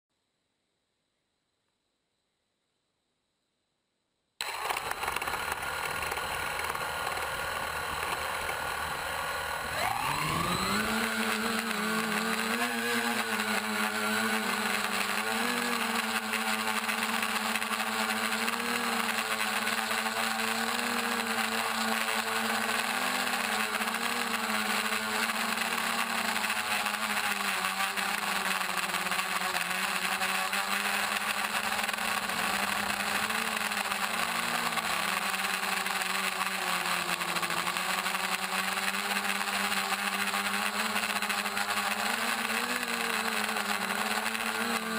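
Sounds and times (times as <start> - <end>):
quadcopter motors whining: 4.4 - 44.9.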